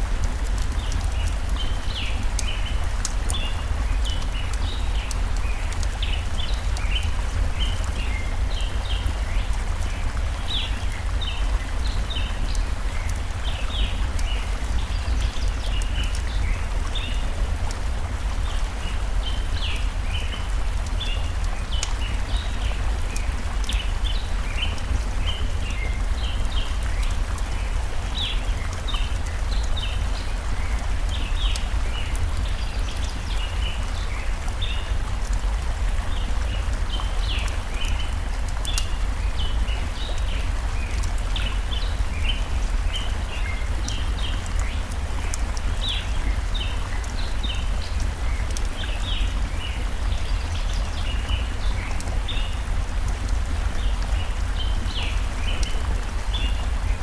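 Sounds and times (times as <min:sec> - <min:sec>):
campfire crackling: 0:00.0 - 0:57.0
stream rushing: 0:00.0 - 0:57.0.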